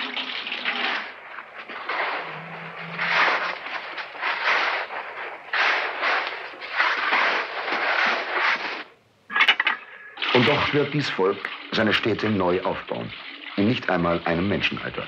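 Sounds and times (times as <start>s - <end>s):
water pouring into metal buckets: 0.0s - 9.0s, 9.8s - 15.0s.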